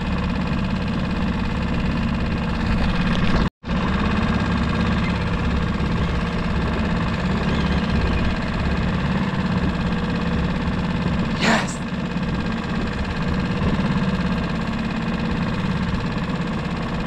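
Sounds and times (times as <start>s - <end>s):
outboard motor idling: 0.0s - 11.3s, 11.9s - 17.0s.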